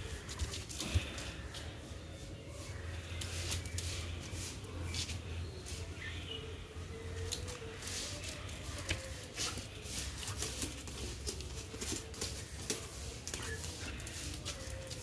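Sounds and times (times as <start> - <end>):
paws and sandals scraping concrete: 0.0 - 6.4, 7.0 - 15.0.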